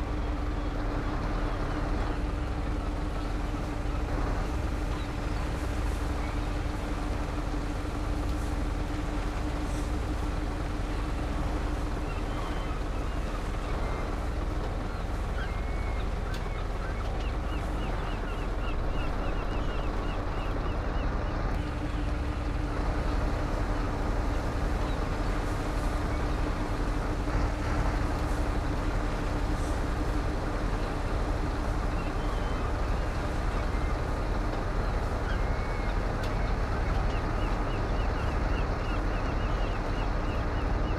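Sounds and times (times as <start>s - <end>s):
road and wind noise: 0.0s - 40.9s
truck engine humming: 0.0s - 40.9s.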